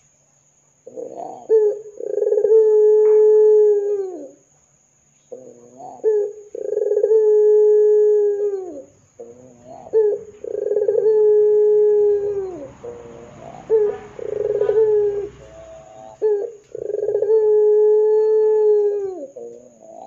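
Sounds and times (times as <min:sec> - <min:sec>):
dove cooing: 0:00.8 - 0:04.4, 0:05.3 - 0:20.0.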